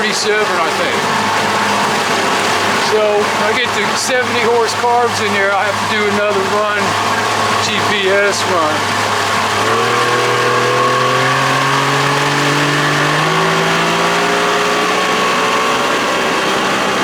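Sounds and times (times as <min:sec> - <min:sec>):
outboard motor accelerating: 0:00.0 - 0:17.0.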